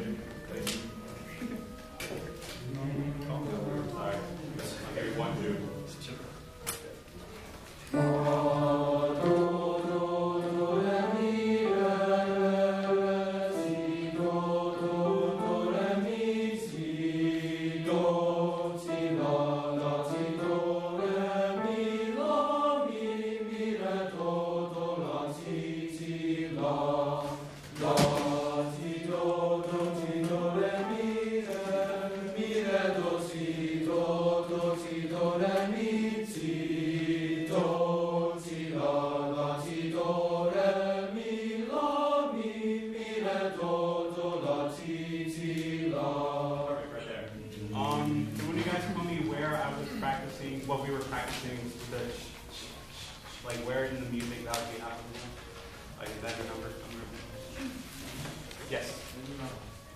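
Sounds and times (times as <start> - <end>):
boys choir singing: 0.0 - 7.0, 7.9 - 59.9.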